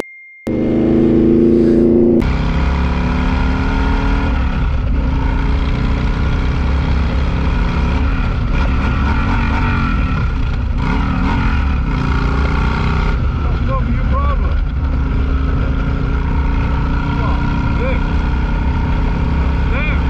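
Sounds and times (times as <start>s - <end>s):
motorcycle engine running: 0.5s - 20.0s
ride hum: 0.5s - 20.0s
sport bike engine running: 0.5s - 20.0s.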